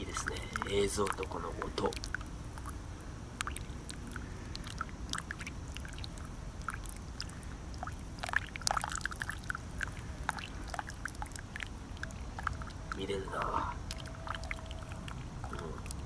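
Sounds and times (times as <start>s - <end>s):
low steady rumble: 0.0s - 16.0s
water trickling onto coffee grounds: 0.0s - 16.0s.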